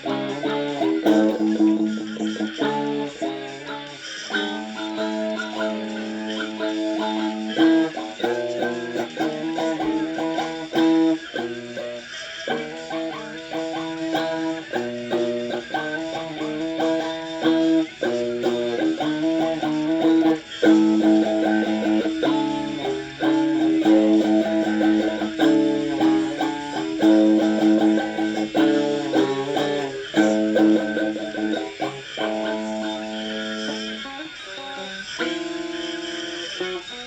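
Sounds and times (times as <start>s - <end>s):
guitar playing notes and chords: 0.0s - 37.0s.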